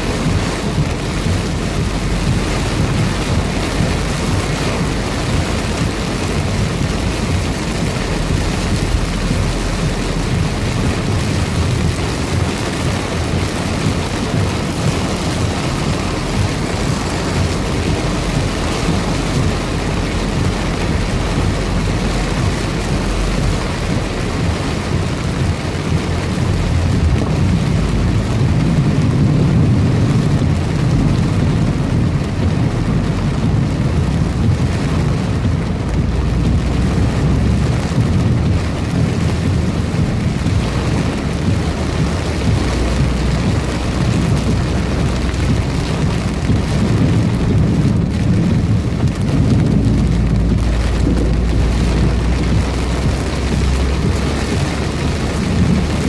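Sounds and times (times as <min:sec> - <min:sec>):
heavy rain pouring: 0:00.0 - 0:56.0
low rumble: 0:00.0 - 0:56.0.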